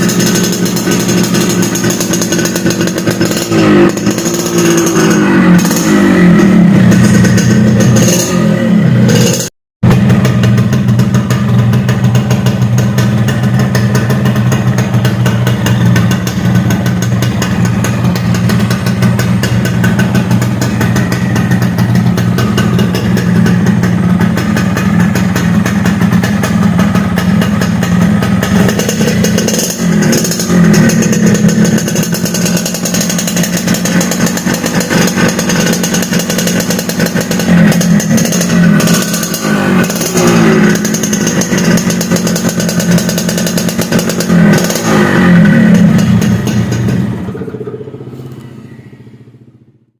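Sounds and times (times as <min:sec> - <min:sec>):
raspy motorcycle engine revving: 0:00.0 - 0:49.9.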